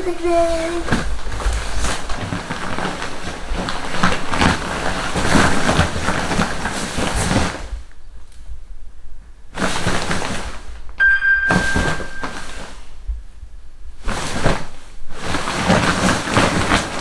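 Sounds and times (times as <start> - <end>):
nylon sleeping bag rustling: 0.0 - 7.9, 9.5 - 10.9, 11.5 - 13.1, 13.9 - 17.0.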